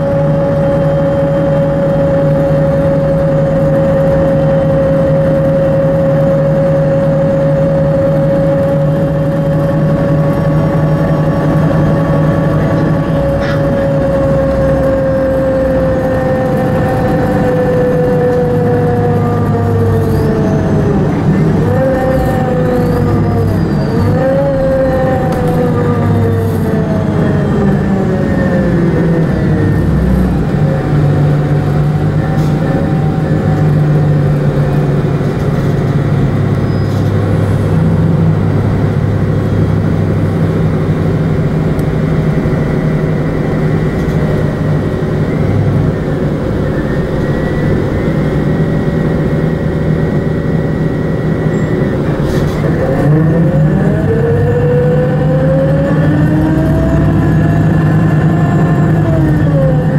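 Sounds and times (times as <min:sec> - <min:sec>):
bus engine drone: 0:00.0 - 0:59.9
drivetrain whine: 0:00.0 - 0:59.9
road noise: 0:00.0 - 0:59.9.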